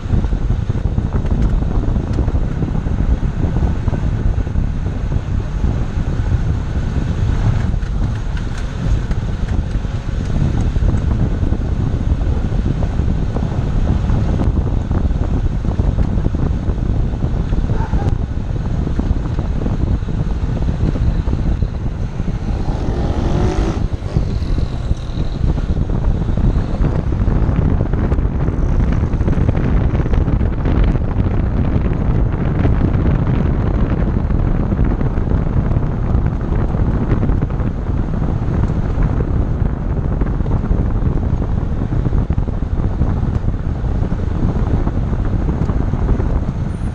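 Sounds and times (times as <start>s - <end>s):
car road noise: 0.0s - 46.9s
wind buffeting microphone: 0.0s - 46.9s.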